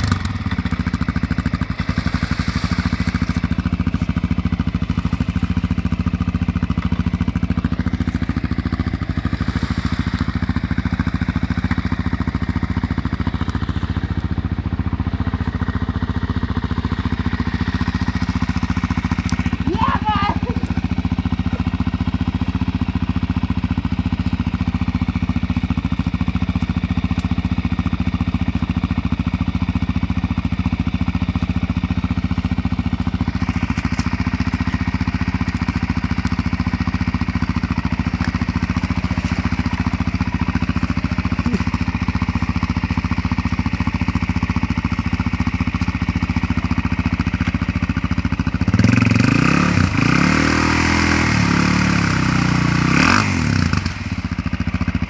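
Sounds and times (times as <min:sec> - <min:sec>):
quad engine idling and revving: 0:00.0 - 0:55.0.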